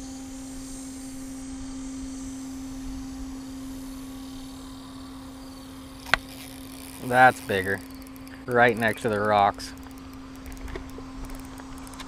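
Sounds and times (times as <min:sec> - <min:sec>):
faint outdoor background noise: 0:00.0 - 0:12.0
steady low hum: 0:00.0 - 0:12.0.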